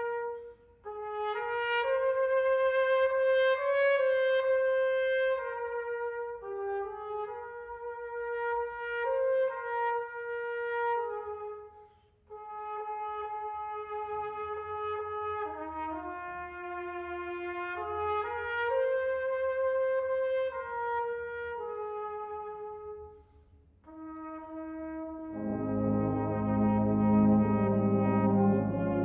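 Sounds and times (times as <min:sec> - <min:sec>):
solo trumpet playing a hymn: 0:00.0 - 0:29.0.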